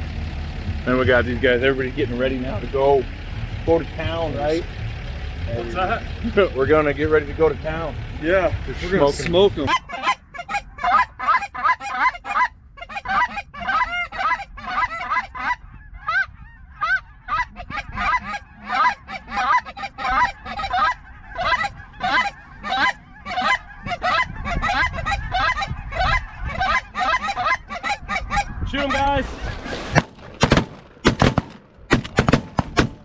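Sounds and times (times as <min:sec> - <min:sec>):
geese honking: 0:00.0 - 0:28.9.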